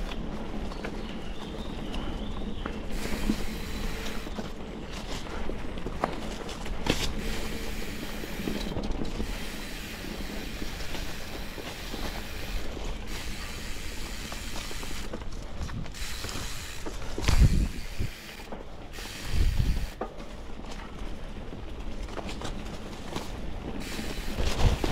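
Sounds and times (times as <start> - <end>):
bike tyres rattling over dirt: 0.0 - 24.9.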